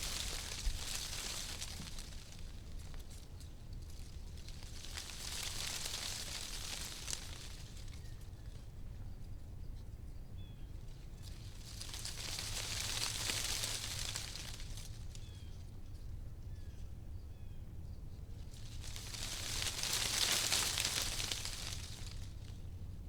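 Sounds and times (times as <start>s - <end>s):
wind rustling tree leaves: 0.0s - 8.9s, 10.7s - 16.0s, 18.2s - 23.0s.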